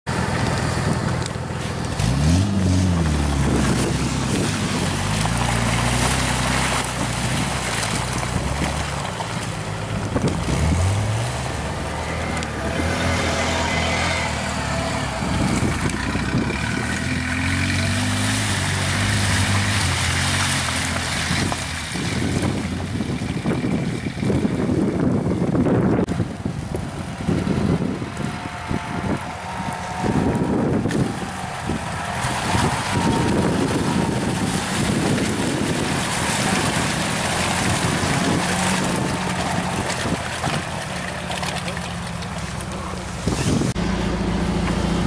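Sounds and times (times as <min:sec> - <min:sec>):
off-road vehicle engine revving: 0:00.1 - 0:45.0.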